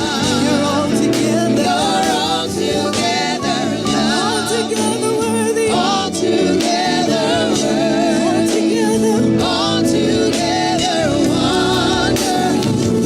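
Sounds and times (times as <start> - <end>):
sustained organ chords: 0.0 - 13.0
voices singing with vibrato: 0.0 - 13.0.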